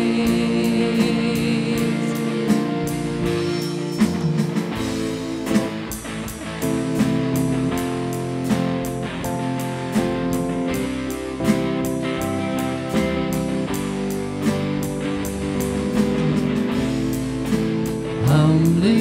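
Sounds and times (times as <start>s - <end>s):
bass guitar: 0.0s - 19.0s
drum kit steady beat: 0.0s - 19.0s
electric guitars: 0.0s - 19.0s.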